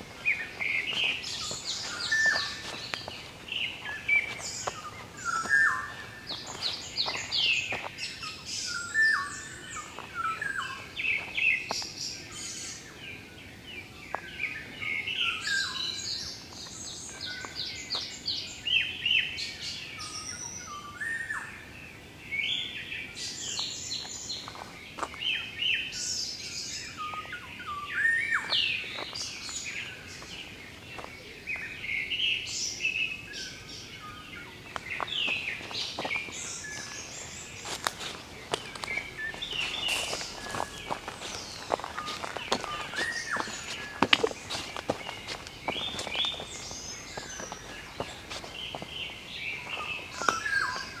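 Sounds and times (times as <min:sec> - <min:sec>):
wild birds chirping and trilling: 0:00.0 - 0:51.0.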